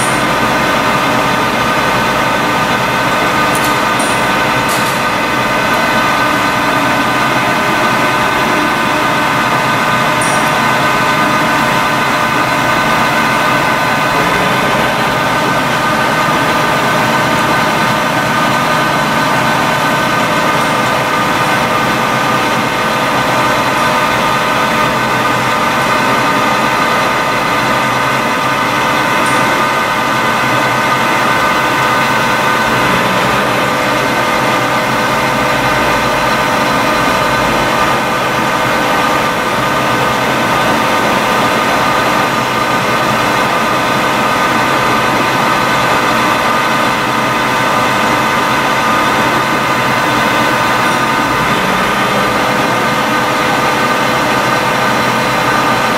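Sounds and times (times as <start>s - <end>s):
lathe running with whine: 0.0s - 55.9s.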